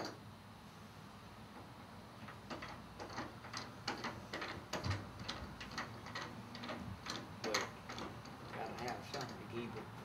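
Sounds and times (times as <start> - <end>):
light clicks and knocks at a saw: 1.6 - 9.9.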